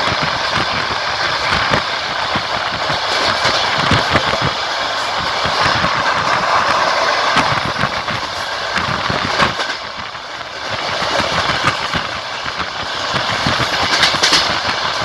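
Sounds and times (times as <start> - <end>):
train rolling rattle: 0.0 - 15.0
wheels knocking on rails: 0.0 - 15.0.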